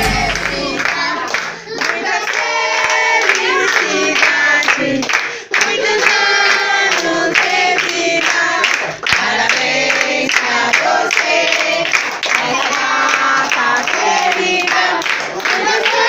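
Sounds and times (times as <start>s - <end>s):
crowd singing birthday song: 0.0s - 16.0s
people clapping in rhythm: 0.0s - 16.0s.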